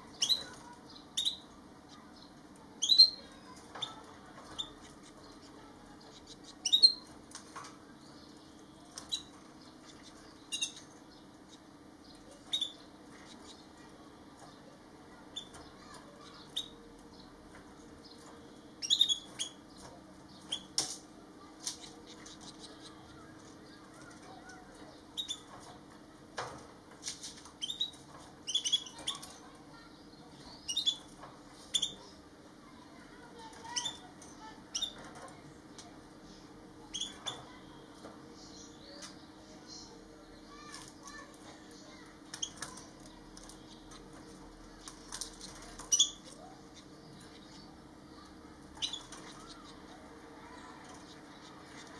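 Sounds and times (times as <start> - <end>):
finches chirping: 0.0 - 17.4, 18.0 - 25.8, 27.5 - 35.2, 36.2 - 51.9
faint low hum: 0.0 - 51.9.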